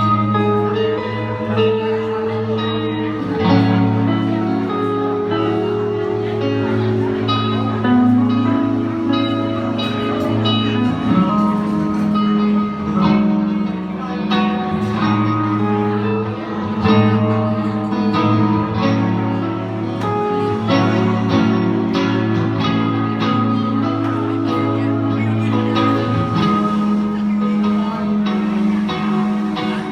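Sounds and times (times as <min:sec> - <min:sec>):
bass line: 0:00.0 - 0:29.9
guitar: 0:00.0 - 0:29.9.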